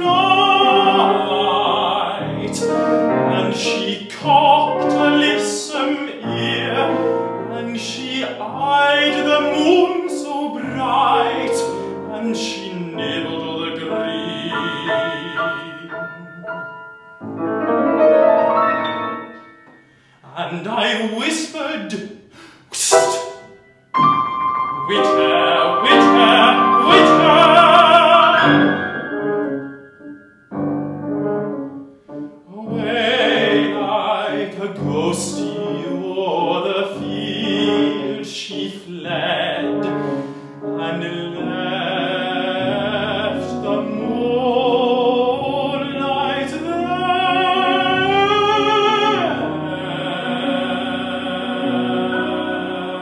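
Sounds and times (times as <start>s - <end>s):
man singing classical song: 0.0s - 29.6s, 31.9s - 53.0s
grand piano: 0.0s - 53.0s.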